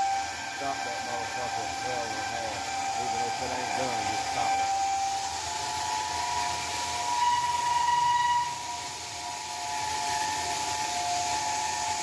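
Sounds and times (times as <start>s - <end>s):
bandsaw cutting metal pipe: 0.0s - 12.0s.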